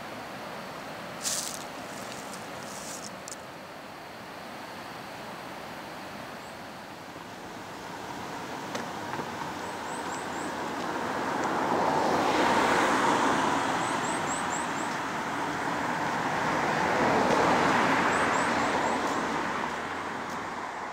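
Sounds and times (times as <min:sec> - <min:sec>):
vehicles passing on a road: 0:00.0 - 0:04.5, 0:06.8 - 0:20.9.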